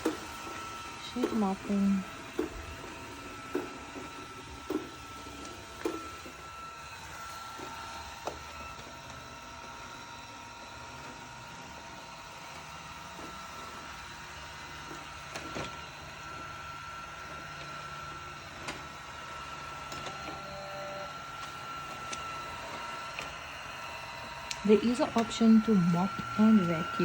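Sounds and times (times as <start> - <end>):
robot vacuum motor whine: 0.0 - 27.0.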